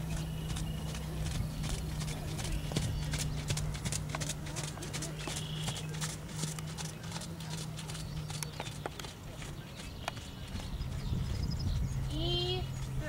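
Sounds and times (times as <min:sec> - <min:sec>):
horse hooves trotting on sand: 0:00.0 - 0:13.0
steady low hum: 0:00.0 - 0:13.0
wind rumble on microphone: 0:00.0 - 0:13.0.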